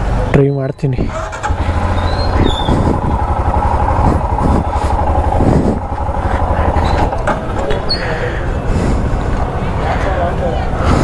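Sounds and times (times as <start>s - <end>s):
motorcycle engine pulsing: 0.0s - 11.0s.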